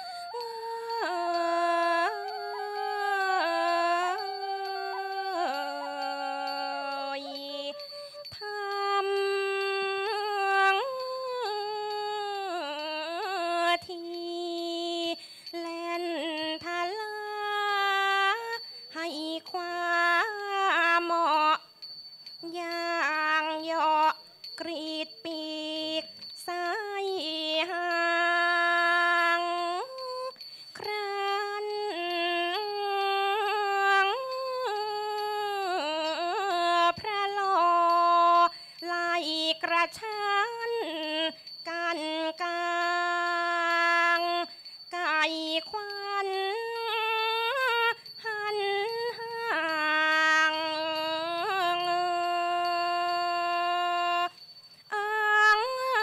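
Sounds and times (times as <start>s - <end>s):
woman singing slow classical vocal: 0.0s - 21.7s, 22.3s - 56.0s.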